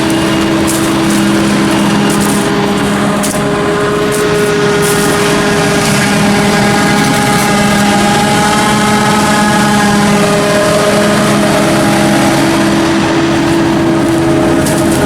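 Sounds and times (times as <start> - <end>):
heavy farm machinery engines: 0.0 - 15.0.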